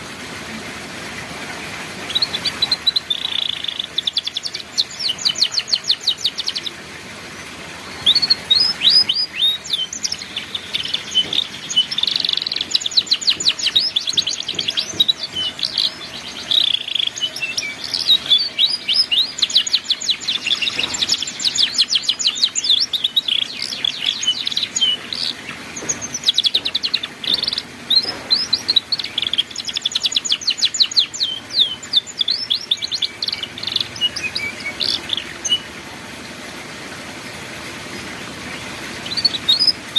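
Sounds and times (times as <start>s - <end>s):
canary singing: 2.0s - 6.9s, 7.8s - 35.7s, 38.6s - 39.9s.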